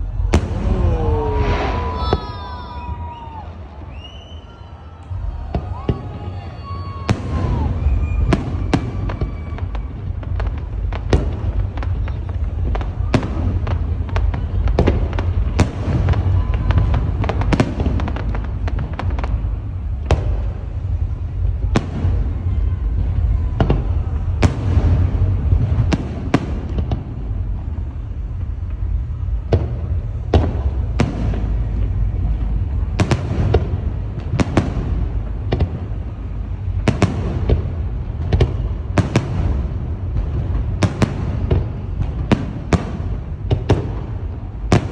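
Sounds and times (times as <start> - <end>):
low rumble of echoing booms: 0.0 - 4.3, 5.0 - 44.9
fireworks bursting: 0.0 - 44.9.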